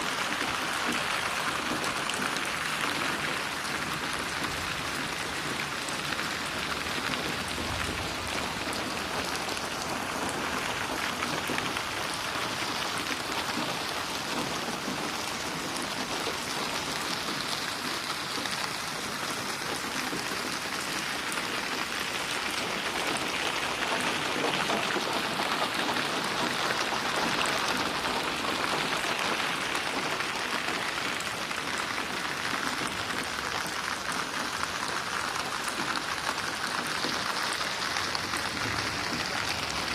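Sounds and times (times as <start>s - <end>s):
rain splashing on hard surface: 0.0s - 39.9s.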